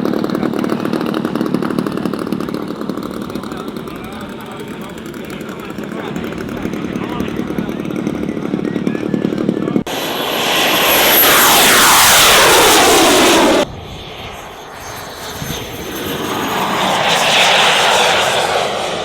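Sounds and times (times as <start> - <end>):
model aircraft engine passing: 0.0 - 19.0.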